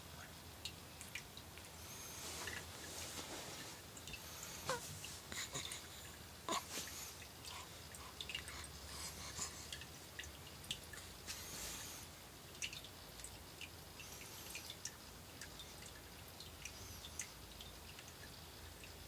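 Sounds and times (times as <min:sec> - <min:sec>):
pet wet clicks and snuffling: 0:00.2 - 0:19.0.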